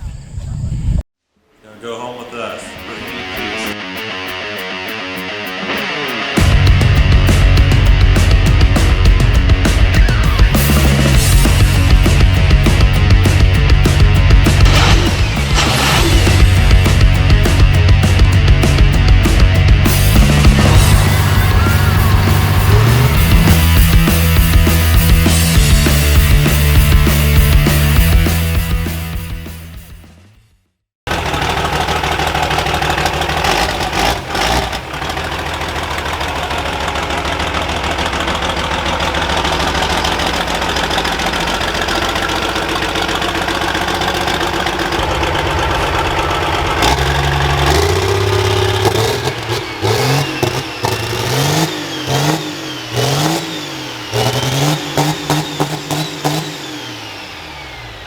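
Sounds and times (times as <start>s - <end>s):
diesel engine revving: 6.4s - 29.8s, 31.1s - 58.0s.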